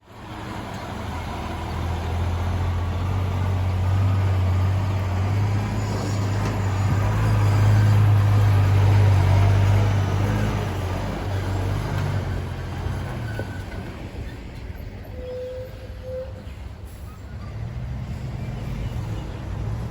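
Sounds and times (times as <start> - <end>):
heavy vehicle engine humming: 0.0 - 19.9.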